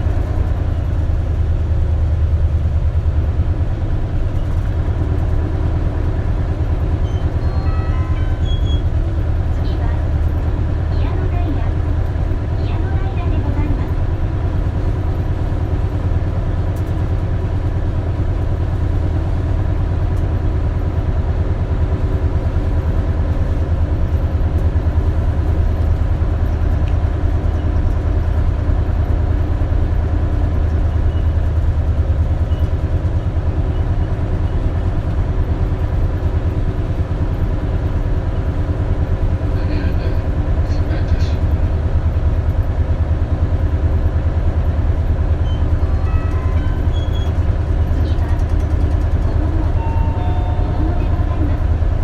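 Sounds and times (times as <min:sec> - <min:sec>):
bus engine drone: 0:00.0 - 0:52.0.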